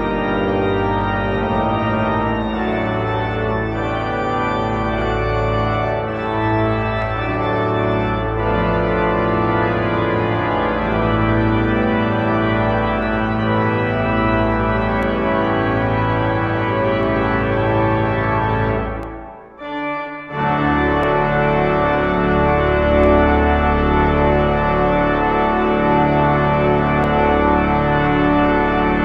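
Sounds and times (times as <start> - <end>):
church organ chords: 0.0 - 29.0.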